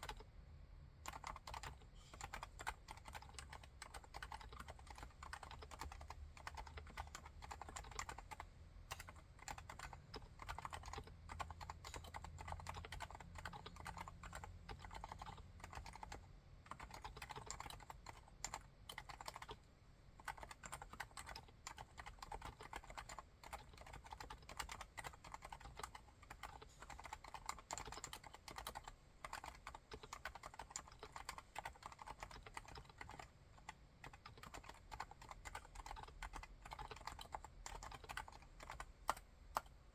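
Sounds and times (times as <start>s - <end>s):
muted keyboard typing: 0.0s - 0.3s, 1.0s - 39.8s.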